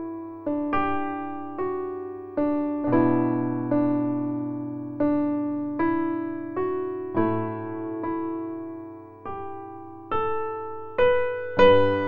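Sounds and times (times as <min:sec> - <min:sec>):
soft solo piano music: 0:00.0 - 0:12.0.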